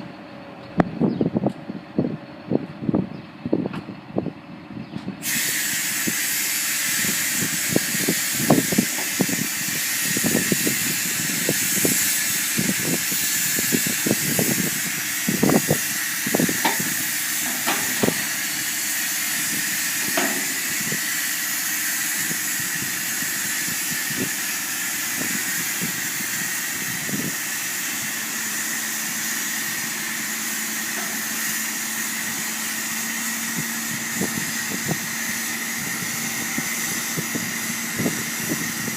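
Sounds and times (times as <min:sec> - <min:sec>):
machinery hissing: 0:05.2 - 0:38.9.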